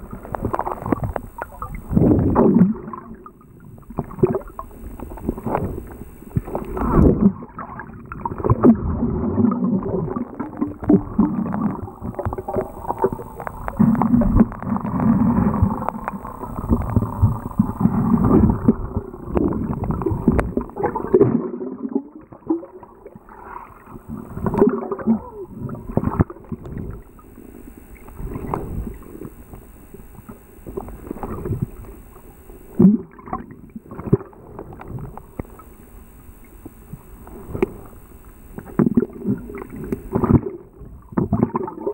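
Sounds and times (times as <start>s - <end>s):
underwater water sloshing: 0.0s - 21.6s, 22.3s - 41.9s.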